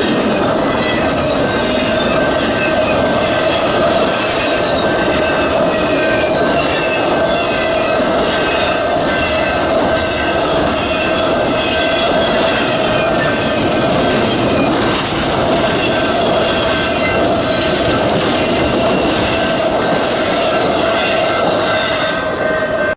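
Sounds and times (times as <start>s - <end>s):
train rumbling past: 0.0s - 22.9s
train wheels squealing: 0.0s - 22.9s.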